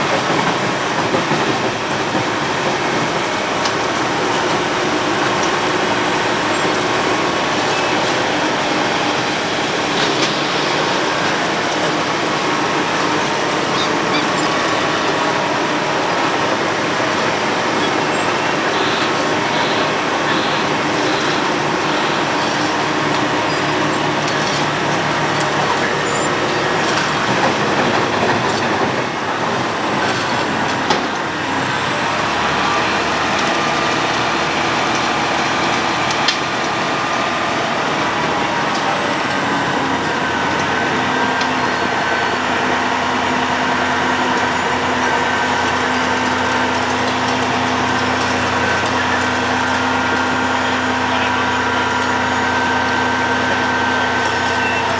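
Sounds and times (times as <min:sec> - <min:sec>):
road planer machine running: 0:00.0 - 0:54.9.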